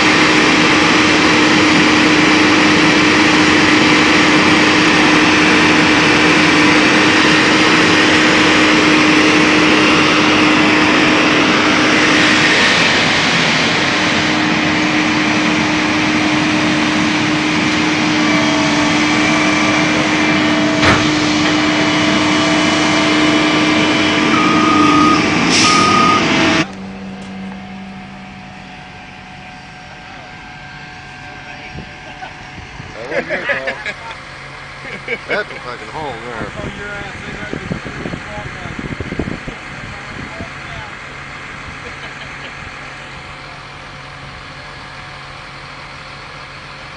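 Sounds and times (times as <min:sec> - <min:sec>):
heavy diesel engines droning: 0:00.0 - 0:46.9.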